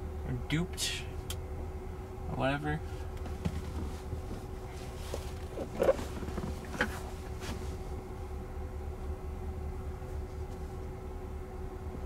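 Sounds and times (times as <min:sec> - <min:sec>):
car cabin low rumble: 0:00.0 - 0:12.0
faint steady hum: 0:00.0 - 0:12.0.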